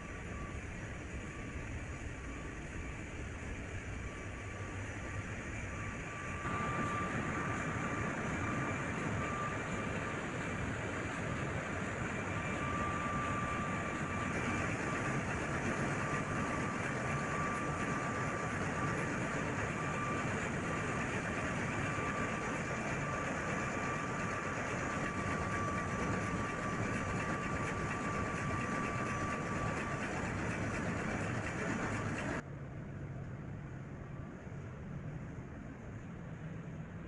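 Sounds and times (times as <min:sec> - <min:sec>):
engine room machinery: 0:00.0 - 0:32.5
high whine: 0:00.0 - 0:32.5.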